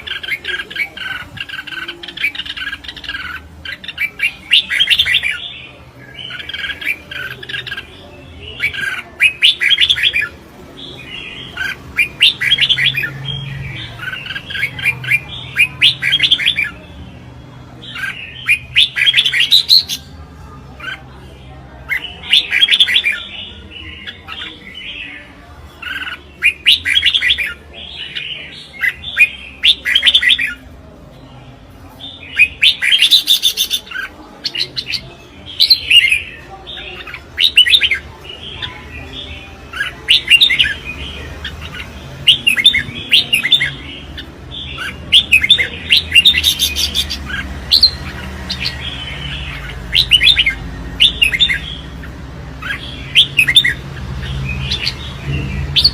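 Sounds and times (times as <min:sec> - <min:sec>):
bulbul singing warbled phrases: 0:00.0 - 0:55.9.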